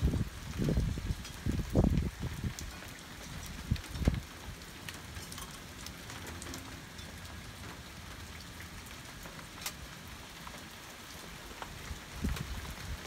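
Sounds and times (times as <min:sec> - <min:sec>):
sharp taps of raindrops: 0:00.0 - 0:13.0
steady rain falling: 0:00.0 - 0:13.0.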